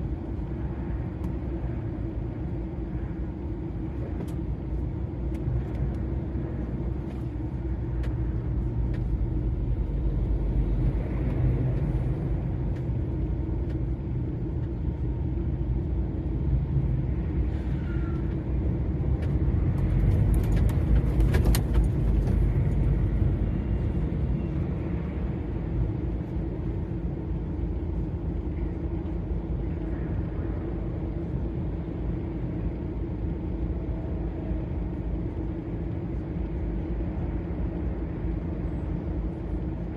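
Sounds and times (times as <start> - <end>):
lorry diesel engine drone: 0.0 - 39.9.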